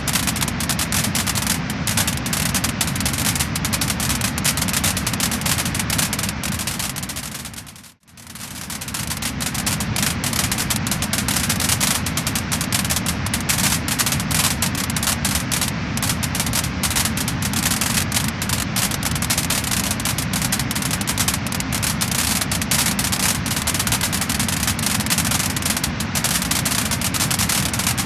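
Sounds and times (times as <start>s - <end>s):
steady fire hiss: 0.0s - 28.0s
wood fire crackling and popping: 0.0s - 28.0s.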